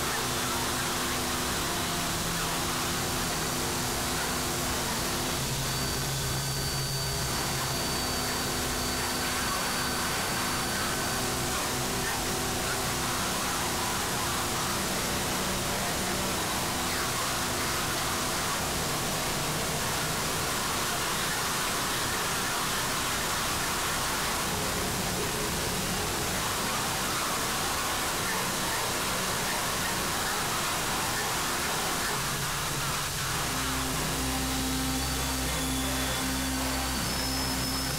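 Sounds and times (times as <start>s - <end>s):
static hiss noise music: 0.0s - 37.9s.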